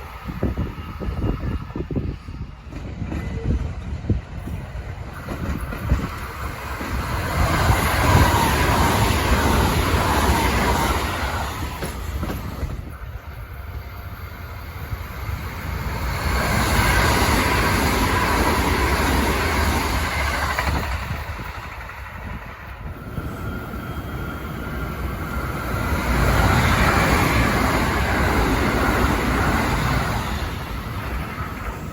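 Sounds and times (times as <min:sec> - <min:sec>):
electric trains passing at speed: 0:00.0 - 0:31.9.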